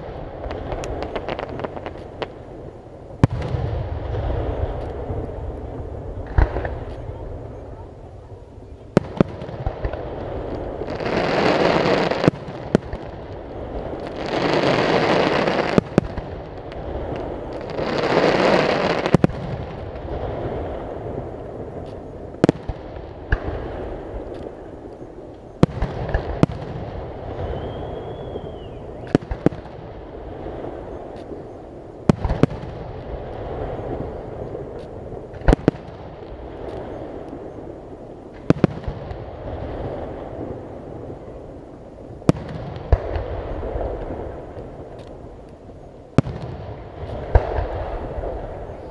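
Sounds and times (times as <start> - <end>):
rushing fireworks swells: 0.0 - 48.9.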